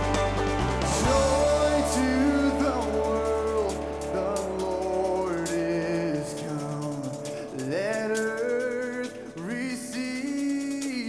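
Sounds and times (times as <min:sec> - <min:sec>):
electric guitar: 0:00.0 - 0:11.0
live band playing: 0:00.0 - 0:11.0
man singing: 0:01.0 - 0:11.0.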